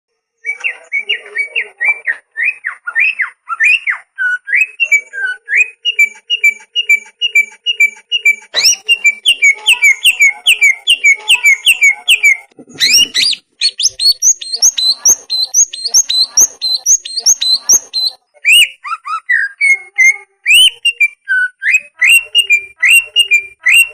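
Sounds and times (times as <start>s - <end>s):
bird singing whistled chirps: 0.4s - 23.9s.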